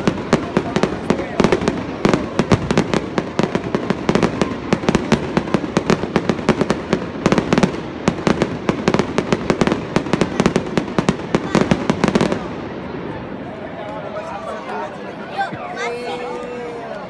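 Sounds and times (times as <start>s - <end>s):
fireworks bangs and cracks: 0.0s - 13.8s.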